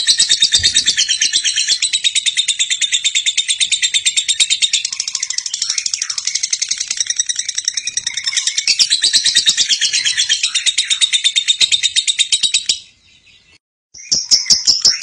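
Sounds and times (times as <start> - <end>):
lovebird chattering chirps: 0.0 - 12.9.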